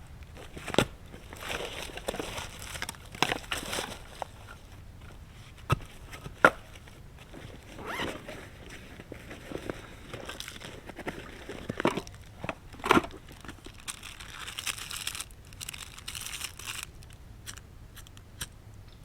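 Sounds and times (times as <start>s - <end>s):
crinkling and crunching handling: 0.0s - 18.6s.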